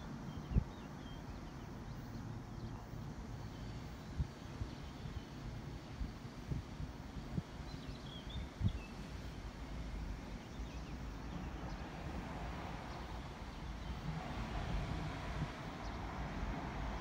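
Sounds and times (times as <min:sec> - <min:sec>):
wind noise on microphone: 0:00.0 - 0:01.2, 0:03.2 - 0:17.0.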